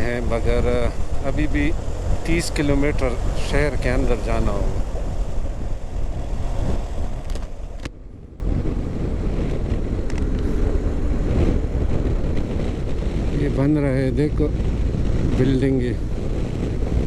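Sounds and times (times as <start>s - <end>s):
motorcycle engine and road rumble: 0.0s - 17.0s
wind buffeting microphone: 0.0s - 17.0s.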